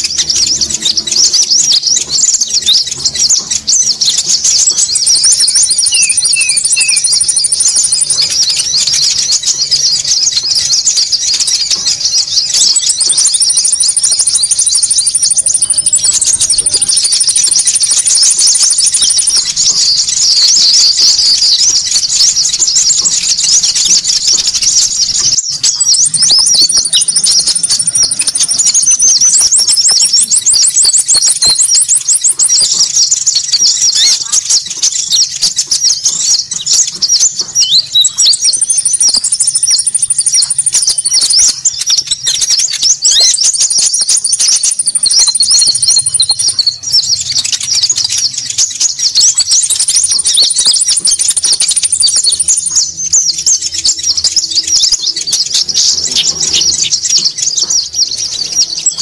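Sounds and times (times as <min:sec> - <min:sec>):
chatter of high sharp chirps: 0:00.0 - 0:59.0.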